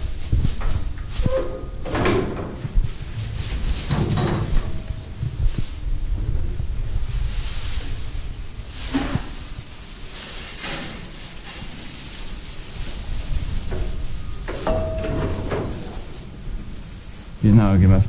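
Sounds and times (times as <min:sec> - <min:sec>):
straw bedding rustling: 0:02.6 - 0:18.0.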